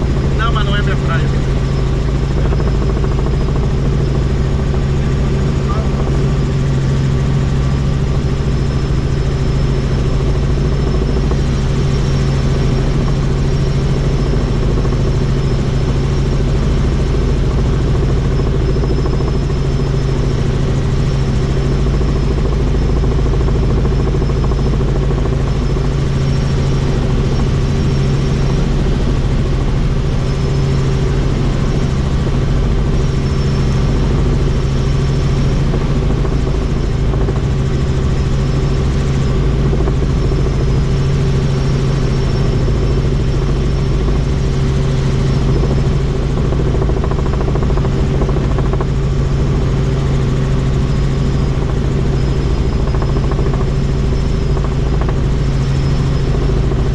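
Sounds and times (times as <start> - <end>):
helicopter engine and rotor: 0.0 - 56.9.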